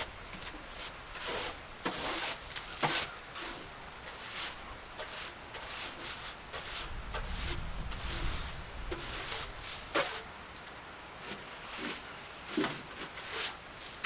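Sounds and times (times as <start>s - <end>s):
hay scraping and rustling: 0.0s - 10.3s, 11.2s - 14.0s.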